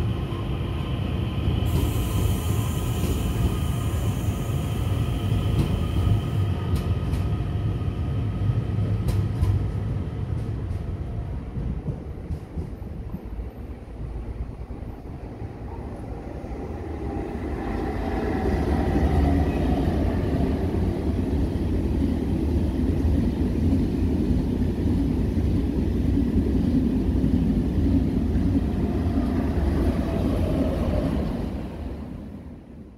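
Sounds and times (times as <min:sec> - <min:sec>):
high-speed train rumbling past: 0:00.0 - 0:32.9.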